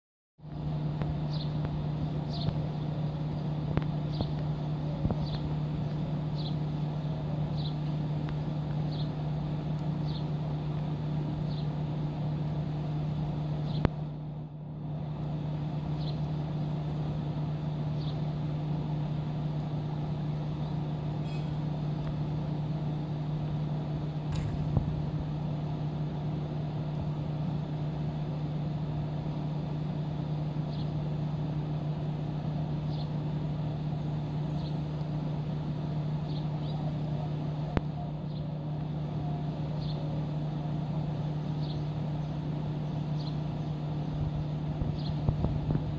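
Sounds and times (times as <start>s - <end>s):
low machine hum: 0.4s - 45.9s.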